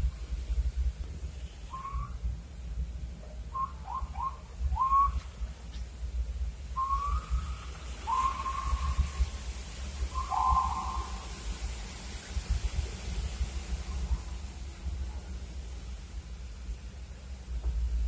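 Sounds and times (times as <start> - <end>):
vehicle cab rumble: 0.0 - 18.0.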